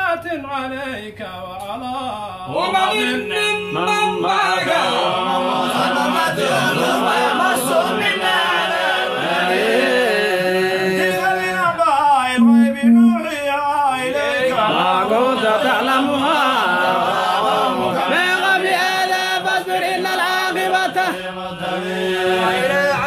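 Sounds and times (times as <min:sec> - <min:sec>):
men chanting recitation: 0:00.0 - 0:23.0.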